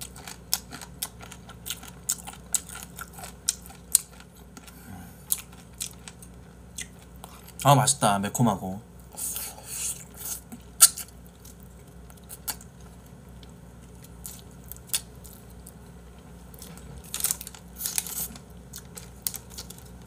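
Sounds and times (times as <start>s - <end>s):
person chewing chicken: 0.0s - 7.6s, 9.1s - 20.0s.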